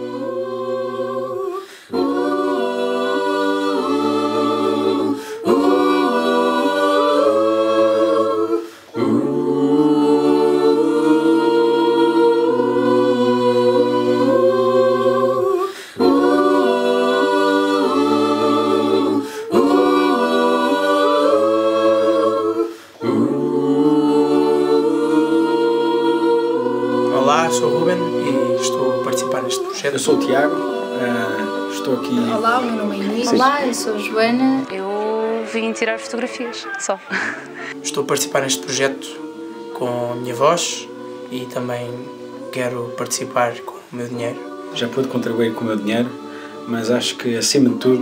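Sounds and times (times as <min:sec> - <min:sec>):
group singing in harmony: 0:00.0 - 0:48.0.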